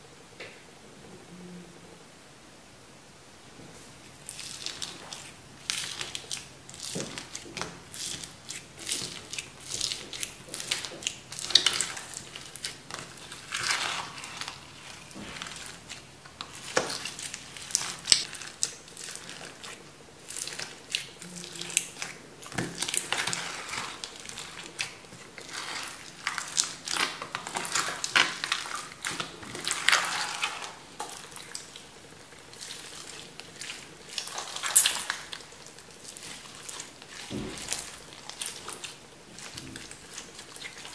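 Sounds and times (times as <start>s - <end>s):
foam-bead slime crackling: 4.2s - 40.9s.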